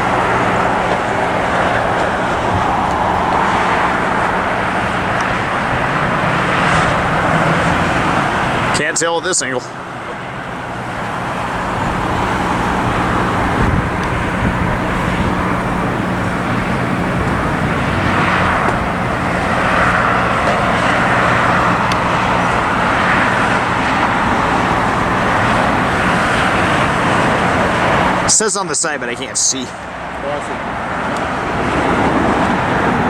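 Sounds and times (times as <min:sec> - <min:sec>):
low hum: 0:00.0 - 0:08.8, 0:10.0 - 0:28.3
jet aircraft roar: 0:00.0 - 0:33.0
road traffic: 0:00.0 - 0:33.0.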